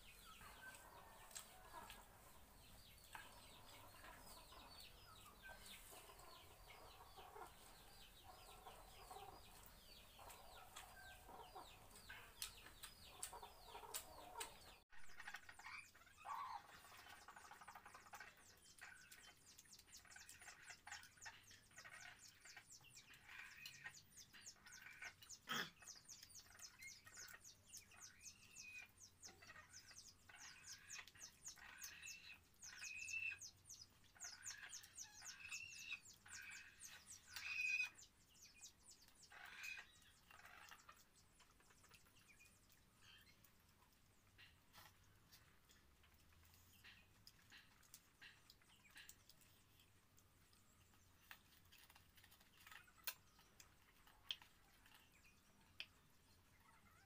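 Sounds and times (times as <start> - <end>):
chickens clucking: 0.0 - 57.0
small birds chirping: 0.0 - 57.0.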